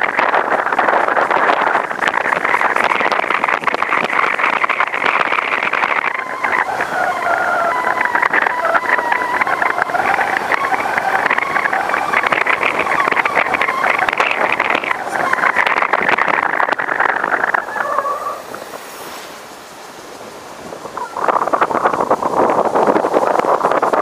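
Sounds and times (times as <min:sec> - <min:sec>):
tyre and wind noise: 0:00.0 - 0:24.0.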